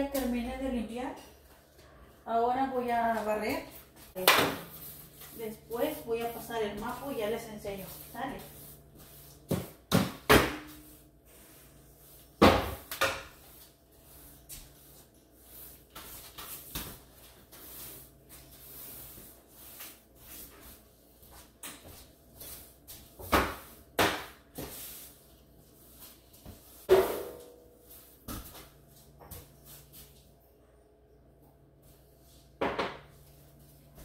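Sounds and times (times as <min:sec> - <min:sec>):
broom sweeping a floor: 0:03.1 - 0:30.4, 0:31.8 - 0:34.0.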